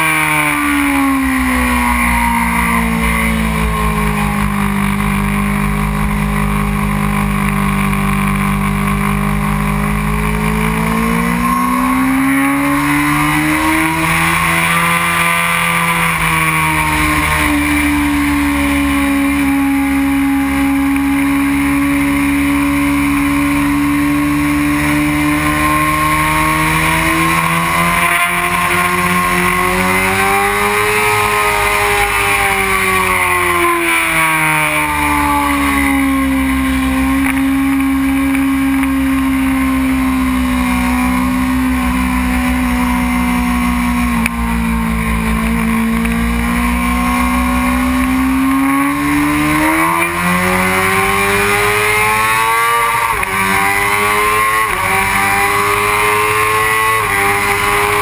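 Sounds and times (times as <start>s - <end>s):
motorcycle engine revving hard: 0.0s - 58.0s.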